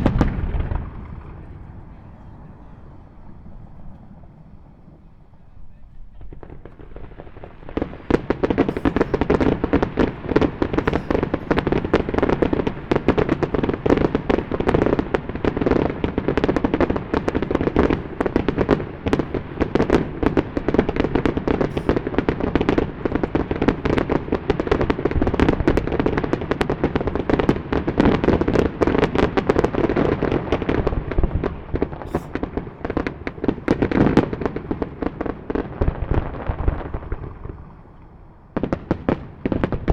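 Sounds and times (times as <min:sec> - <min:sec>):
echoing booms: 0:00.0 - 0:39.9
fireworks bursting and crackling: 0:00.0 - 0:39.9.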